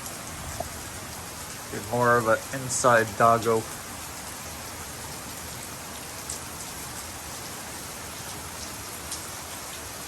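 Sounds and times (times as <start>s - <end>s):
steady rain falling: 0.0s - 10.0s
water drips: 0.0s - 10.0s.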